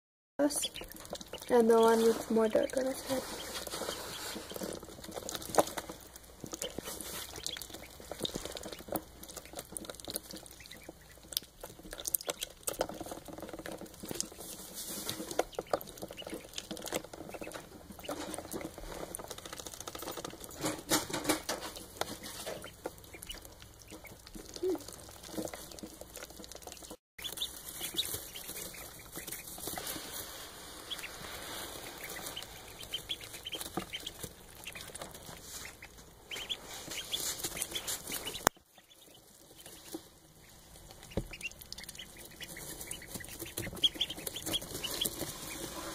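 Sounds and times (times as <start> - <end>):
scratching and rustling in straw: 0.4 - 11.4, 12.0 - 45.9
ducklings peeping: 0.4 - 45.9.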